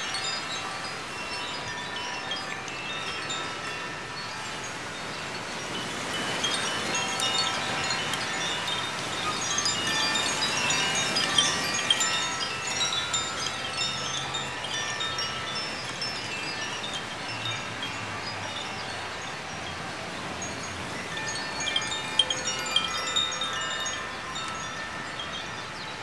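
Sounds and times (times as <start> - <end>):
wind chimes tinkling: 0.0 - 26.0
wind on microphone: 0.0 - 26.0.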